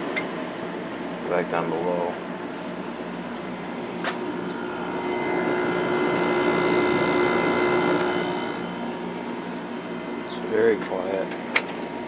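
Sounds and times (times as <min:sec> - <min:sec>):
air conditioner hum and airflow: 0:00.0 - 0:12.0.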